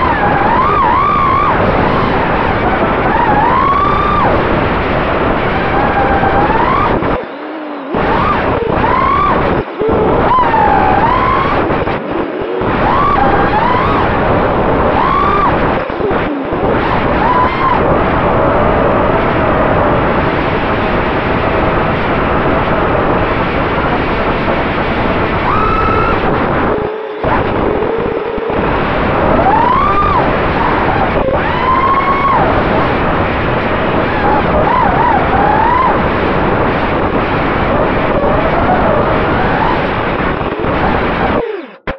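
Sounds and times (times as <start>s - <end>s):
drone motors whining: 0.0s - 41.9s
loud rushing noise: 0.0s - 41.9s.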